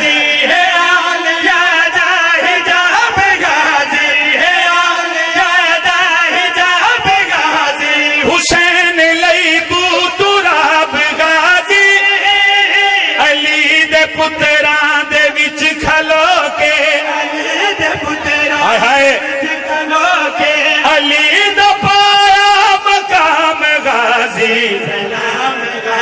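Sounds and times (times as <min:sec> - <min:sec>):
men chanting together: 0:00.0 - 0:13.8, 0:15.8 - 0:26.0.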